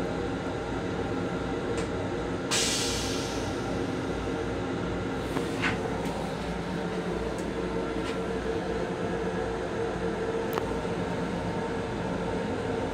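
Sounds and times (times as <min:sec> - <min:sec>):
train running rumble and hum: 0:00.0 - 0:12.9.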